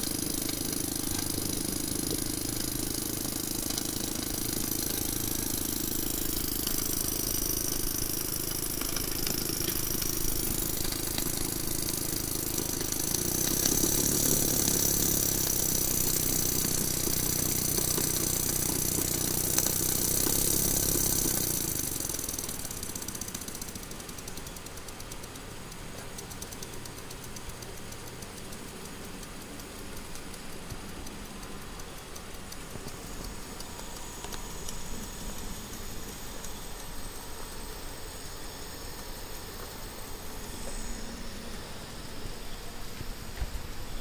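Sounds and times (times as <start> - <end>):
faint ticking: 0.0 - 44.0
steam engine hiss and rattle: 0.0 - 44.0.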